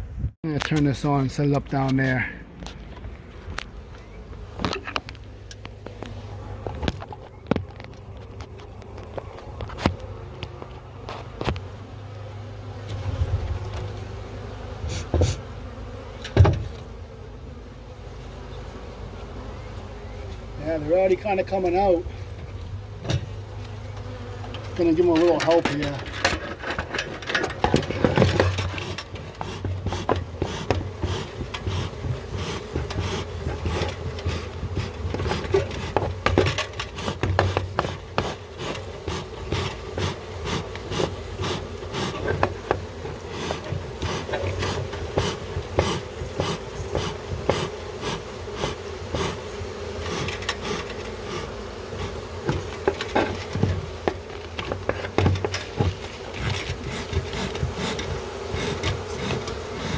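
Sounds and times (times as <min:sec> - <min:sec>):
bee swarm buzzing: 0:00.0 - 0:59.9
scraping and knocking among bees: 0:00.5 - 0:59.9.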